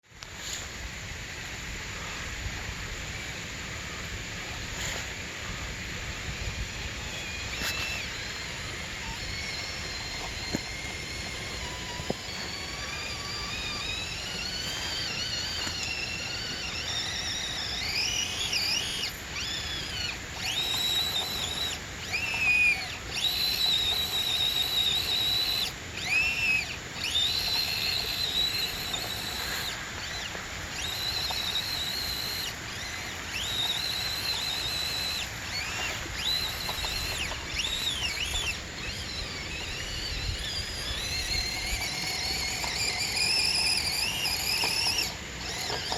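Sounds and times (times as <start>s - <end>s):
toy car motor whining: 3.2s - 45.9s.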